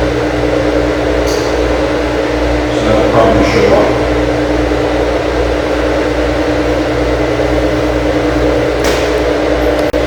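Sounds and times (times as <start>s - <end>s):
electric motor humming: 0.0s - 10.0s.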